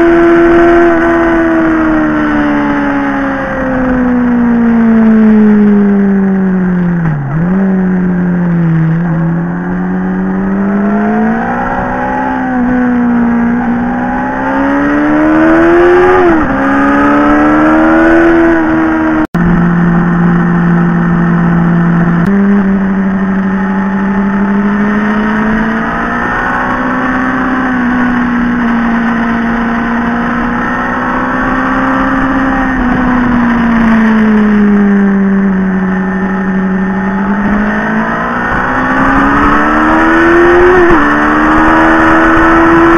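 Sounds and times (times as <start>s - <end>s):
motorcycle engine revving: 0.0s - 42.9s
wind noise: 7.0s - 42.9s.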